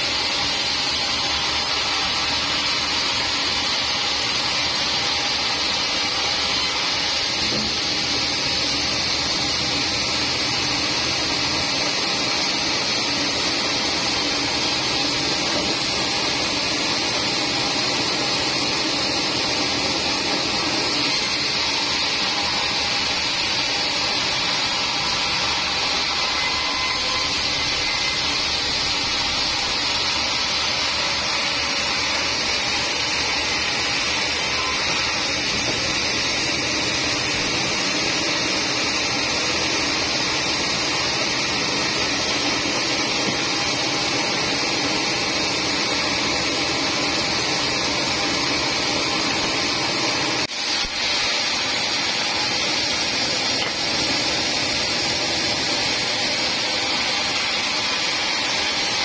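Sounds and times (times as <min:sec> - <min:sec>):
band saw cutting through log: 0:00.0 - 0:59.0.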